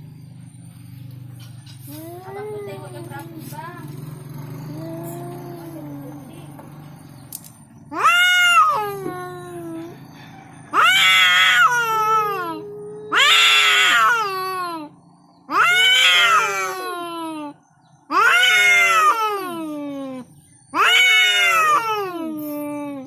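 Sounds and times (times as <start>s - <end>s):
cats yowling: 1.8s - 3.4s, 4.2s - 6.3s, 7.8s - 23.0s.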